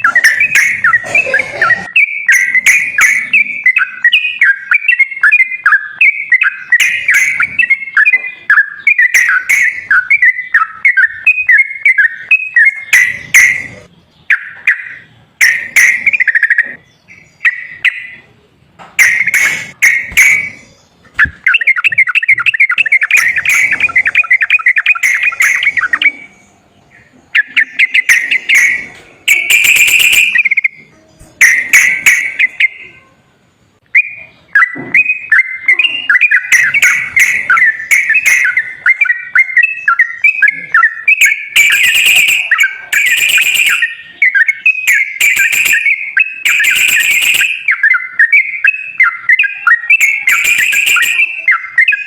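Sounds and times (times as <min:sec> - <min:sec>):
bird rapid trill: 0:00.0 - 0:18.3, 0:19.0 - 0:26.5, 0:27.4 - 0:33.1, 0:34.0 - 0:52.0
bulbul song: 0:00.0 - 0:52.0.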